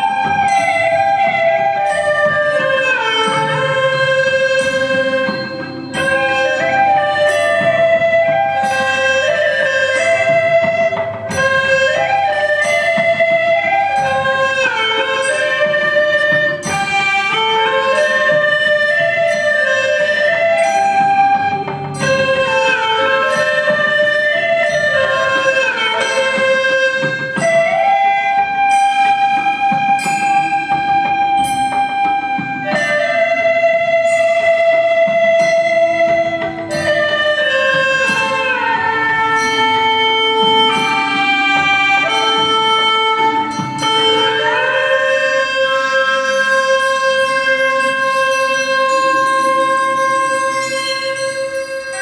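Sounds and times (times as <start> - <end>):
gourd flutes playing a melody: 0.0 - 52.0
plucked string accompaniment: 0.0 - 52.0.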